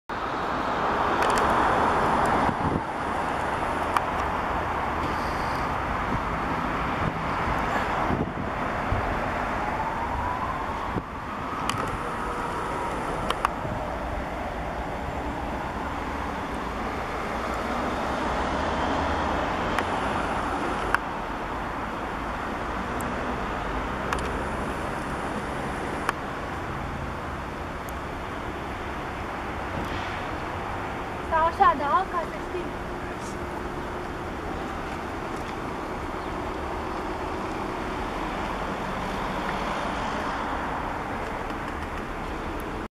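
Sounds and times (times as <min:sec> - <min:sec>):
traffic hum: 0:00.1 - 0:42.9.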